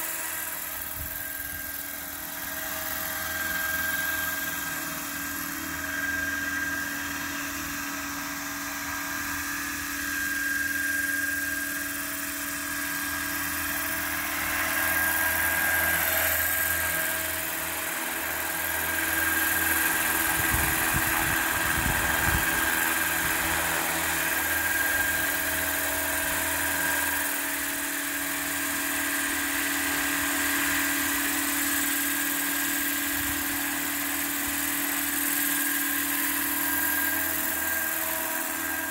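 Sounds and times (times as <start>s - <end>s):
model helicopter whine and rotor drone: 0.0s - 38.9s.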